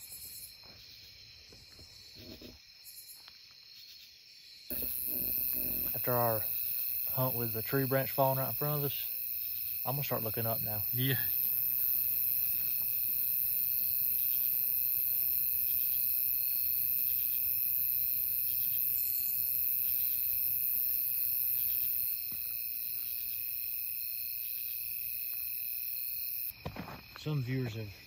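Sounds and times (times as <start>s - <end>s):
insects trilling at night: 0.0s - 28.0s.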